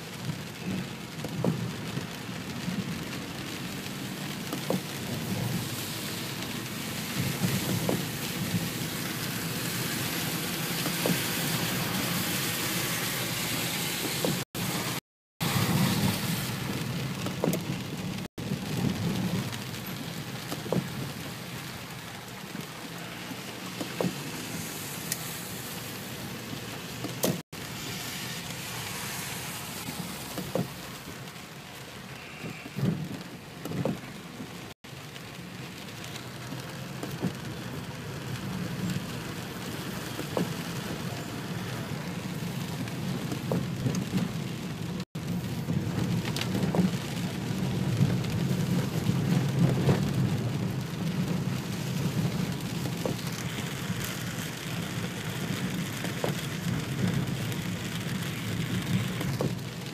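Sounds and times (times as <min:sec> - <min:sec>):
heavy rain on car roof: 0:00.0 - 0:59.9.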